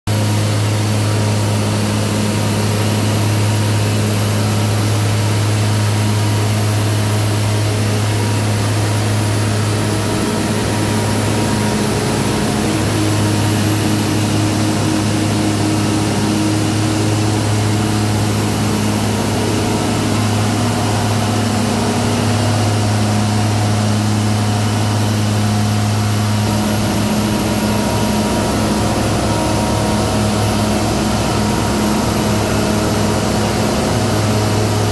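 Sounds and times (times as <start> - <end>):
concrete grinding machine drone: 0.1 - 34.9.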